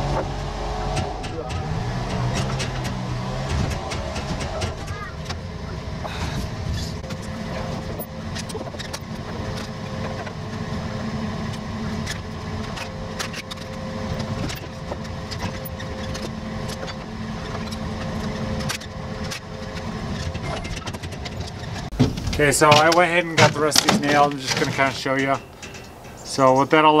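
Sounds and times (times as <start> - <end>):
engine-like drone: 0.0 - 27.0.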